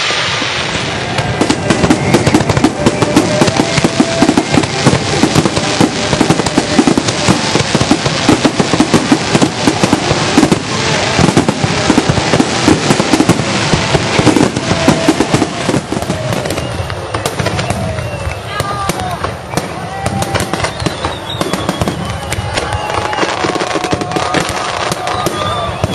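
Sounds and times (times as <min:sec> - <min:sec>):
fireworks bursting: 0:00.0 - 0:25.9.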